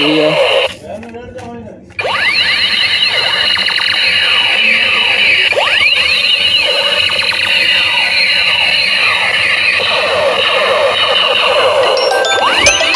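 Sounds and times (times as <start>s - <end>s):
toy gun synthetic sweeping tones: 2.0s - 12.9s.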